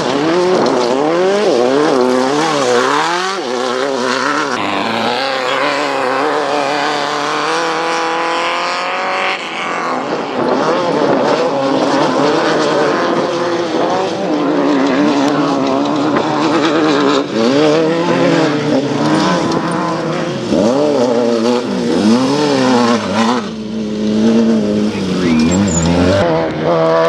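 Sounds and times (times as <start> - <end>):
buggy engine revving: 0.0 - 27.0.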